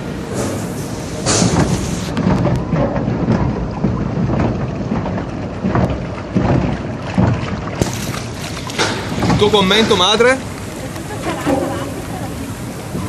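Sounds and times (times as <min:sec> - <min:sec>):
water rushing along flume: 0:00.0 - 0:13.0.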